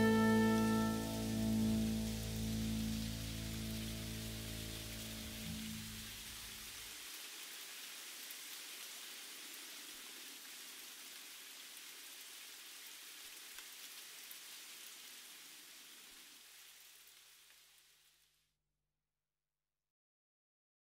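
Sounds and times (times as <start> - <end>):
faint steady hiss: 0.0 - 18.6.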